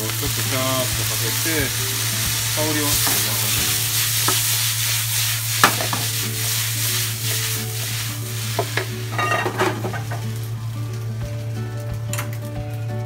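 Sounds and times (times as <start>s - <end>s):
pan and spatula clattering: 0.0s - 10.6s
rice sizzling in a frying pan: 0.0s - 13.0s.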